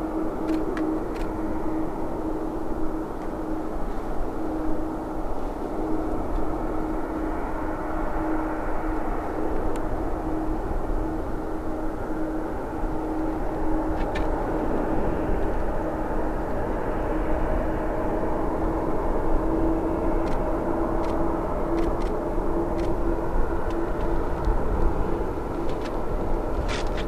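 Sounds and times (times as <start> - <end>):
jet engines running: 0.0 - 27.0
steady hum: 0.0 - 27.0.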